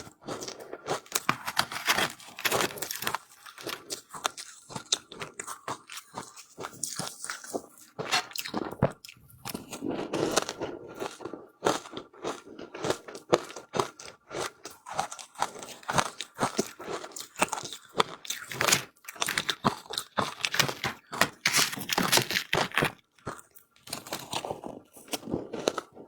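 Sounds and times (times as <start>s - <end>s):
ice being crunched and chewed: 0.0s - 26.0s.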